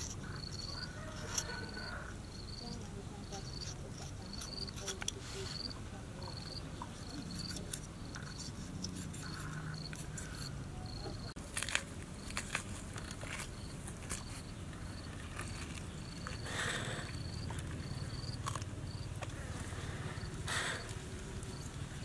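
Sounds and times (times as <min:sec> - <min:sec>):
insect chirping: 0:00.0 - 0:04.8, 0:05.5 - 0:08.5, 0:09.2 - 0:11.3, 0:12.2 - 0:22.0.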